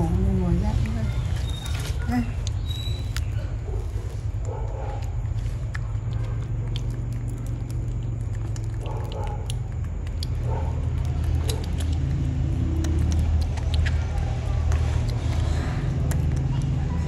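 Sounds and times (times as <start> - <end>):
monkey chewing fruit: 0.0 - 17.0
steady low rumble: 0.0 - 17.0
wet clicks and smacks: 1.3 - 17.0.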